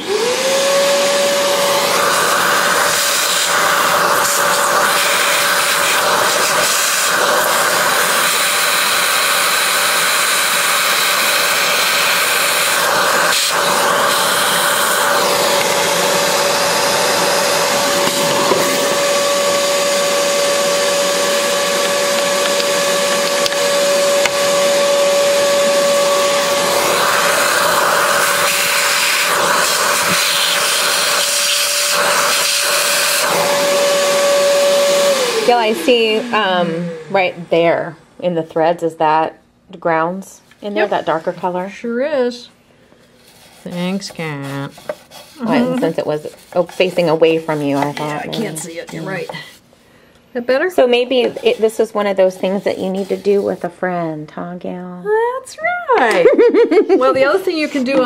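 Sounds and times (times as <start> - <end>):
shop vacuum running: 0.0 - 39.3, 40.0 - 53.8.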